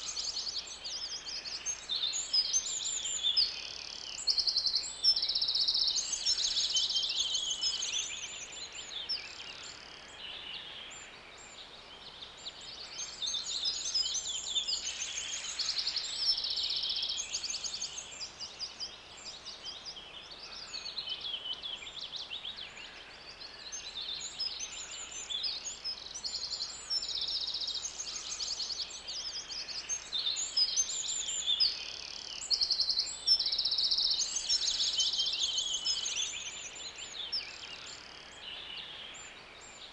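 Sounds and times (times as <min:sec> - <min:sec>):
birds chirping and singing: 0:00.0 - 0:39.9
faint background hiss: 0:00.0 - 0:39.9.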